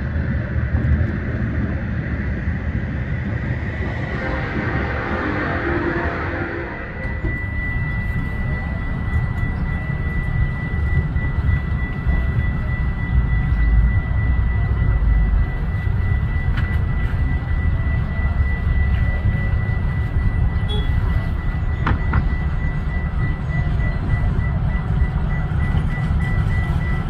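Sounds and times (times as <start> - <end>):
passing train rumble: 0.0 - 27.0
high-pitched steady tone: 1.6 - 27.0.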